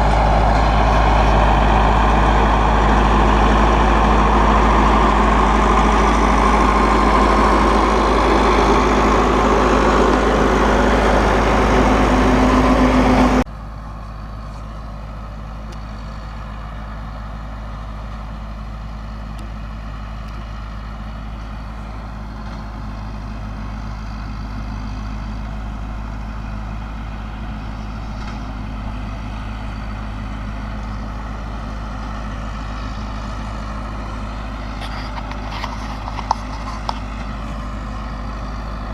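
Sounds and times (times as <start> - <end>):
round baler working: 0.0 - 38.9
tractor diesel engine running: 0.0 - 38.9.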